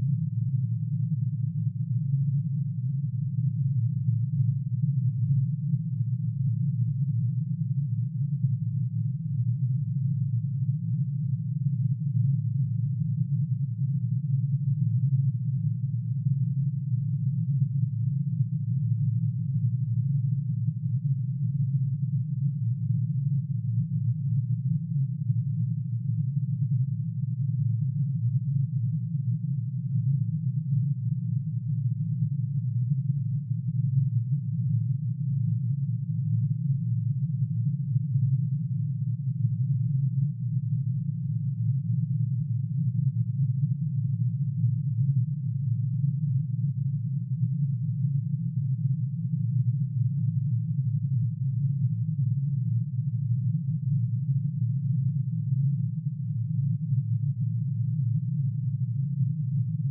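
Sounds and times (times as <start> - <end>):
dense low synthesized hum: 0.0 - 59.9.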